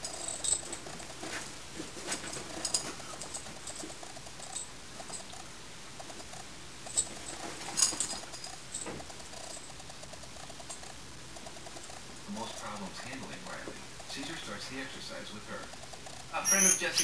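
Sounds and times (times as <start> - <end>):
dogs play-fighting clicks and snaps: 0.0 - 14.3, 15.7 - 16.3.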